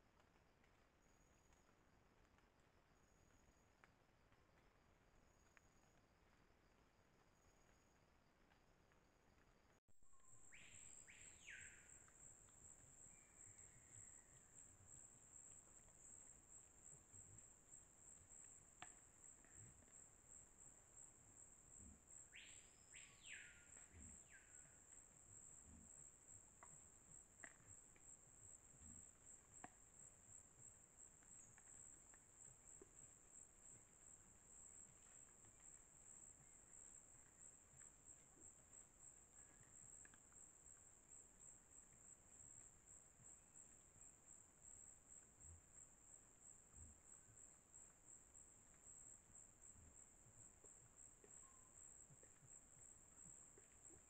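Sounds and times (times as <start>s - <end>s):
insects chirring: 10.4s - 54.0s.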